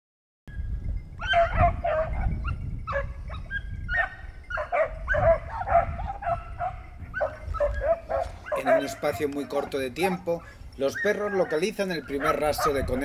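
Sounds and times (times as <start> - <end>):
hounds baying and yelping: 1.2 - 13.0.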